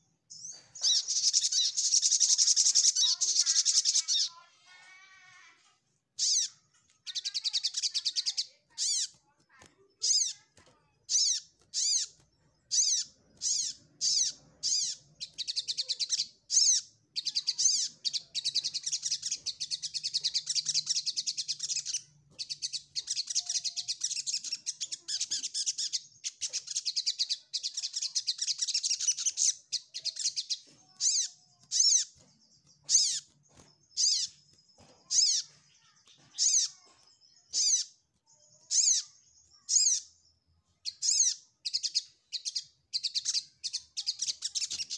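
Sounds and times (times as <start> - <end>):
bird calling and twittering: 0.0 - 44.9.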